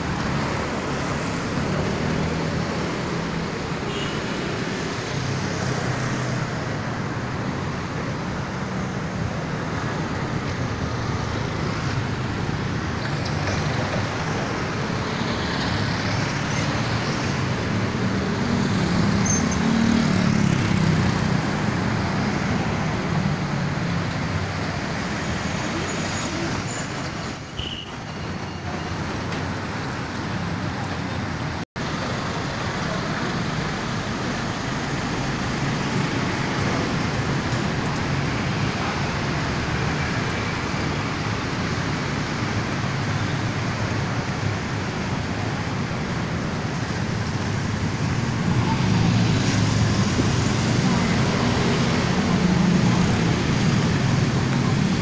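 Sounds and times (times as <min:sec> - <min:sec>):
cars and buses passing: 0:00.0 - 0:55.0.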